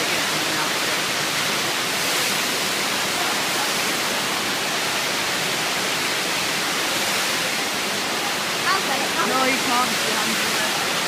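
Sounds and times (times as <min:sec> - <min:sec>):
rushing water breaking into whitewater: 0:00.0 - 0:11.0.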